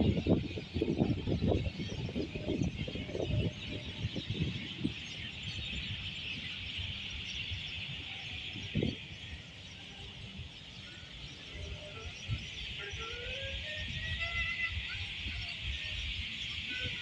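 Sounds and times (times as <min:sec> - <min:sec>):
small birds chattering: 0:00.0 - 0:17.0.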